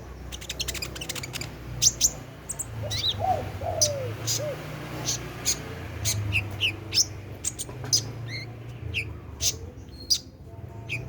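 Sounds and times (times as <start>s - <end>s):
bird singing high chirps: 0.2s - 11.0s.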